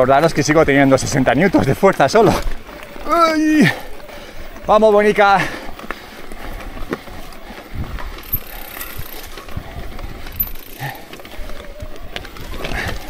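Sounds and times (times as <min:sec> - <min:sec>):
bike knocking and rattling: 0:00.0 - 0:13.0.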